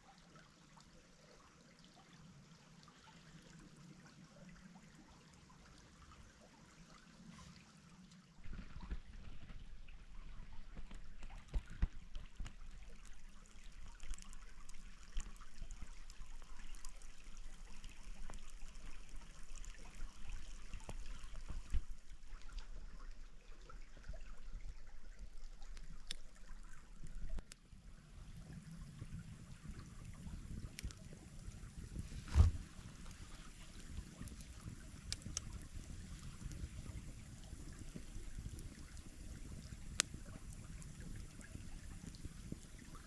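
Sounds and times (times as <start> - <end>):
stream water trickling: 0.0 - 43.0.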